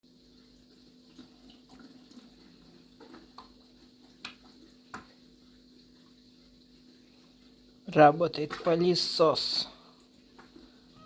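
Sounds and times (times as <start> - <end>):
aquarium hum: 0.1 - 11.0
water trickling: 0.1 - 11.0.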